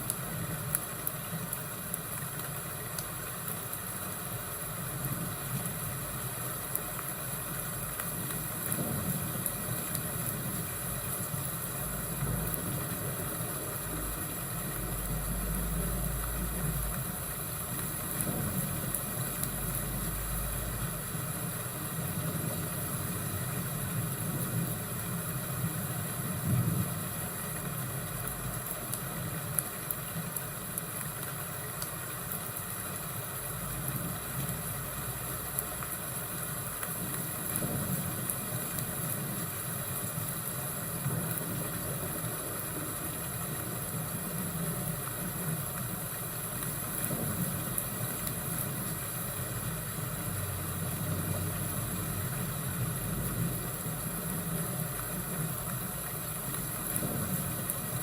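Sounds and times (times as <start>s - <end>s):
faint fire crackles: 0.0s - 58.0s
low rumble and hiss: 0.0s - 58.0s.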